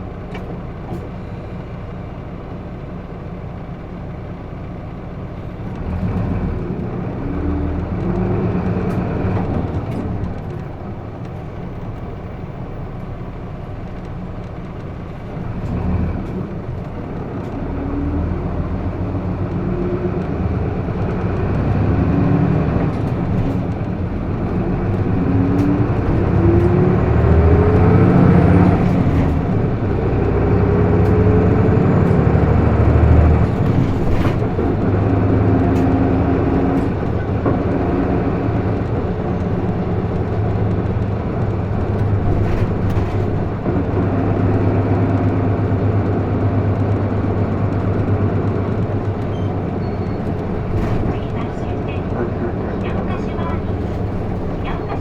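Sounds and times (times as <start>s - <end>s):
bus engine accelerating: 0.0s - 55.0s.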